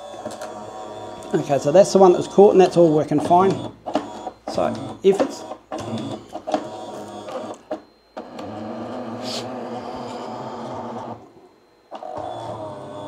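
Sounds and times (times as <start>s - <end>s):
filament feeder motor running: 0.0s - 13.0s.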